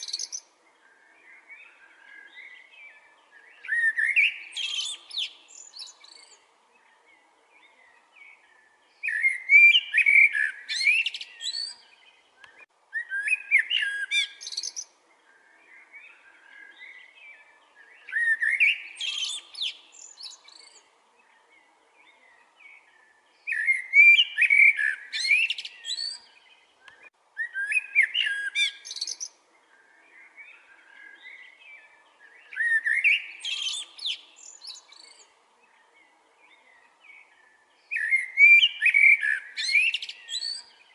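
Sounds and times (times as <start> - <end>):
bird warbling song: 0.0 - 40.9
faint bird chirps: 0.0 - 40.9.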